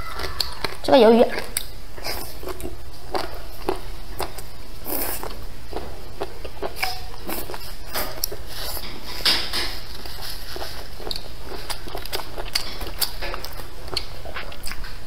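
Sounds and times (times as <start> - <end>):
wet chewing and slurping: 0.0 - 15.0.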